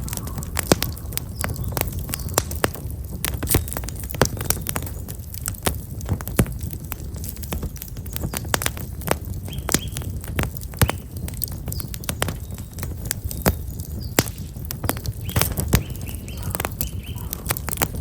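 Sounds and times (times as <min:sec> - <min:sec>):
campfire crackling and popping: 0:00.0 - 0:18.0
small birds chirping: 0:00.0 - 0:18.0.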